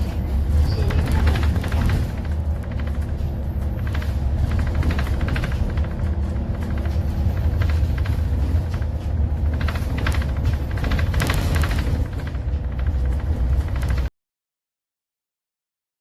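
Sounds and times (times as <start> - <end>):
faint rattles and tones: 0.0 - 14.1
low rumble of moving vehicle: 0.0 - 14.1.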